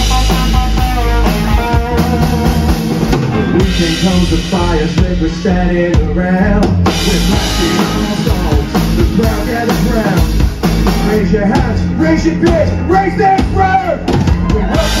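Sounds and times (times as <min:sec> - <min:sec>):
drum kit: 0:00.0 - 0:15.0
electric guitar: 0:00.0 - 0:15.0
man singing: 0:00.0 - 0:15.0.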